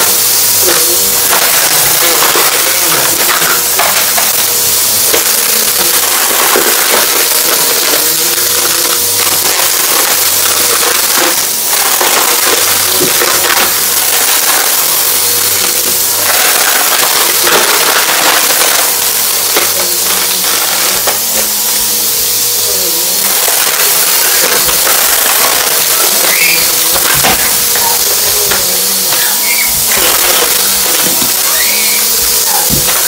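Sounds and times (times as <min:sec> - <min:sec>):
debris crackling in vacuum: 0:00.0 - 0:33.0
vacuum cleaner running: 0:00.0 - 0:33.0.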